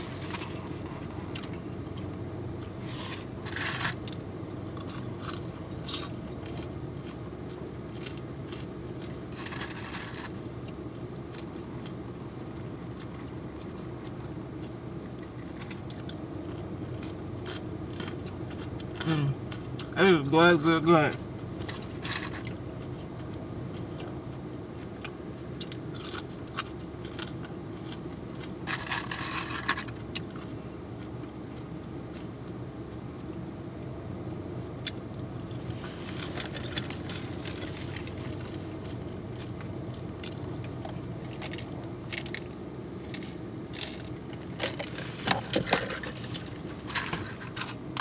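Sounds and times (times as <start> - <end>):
person chewing crispy food: 0.0 - 20.2, 21.4 - 33.3, 34.2 - 48.0
steady low hum: 0.0 - 48.0.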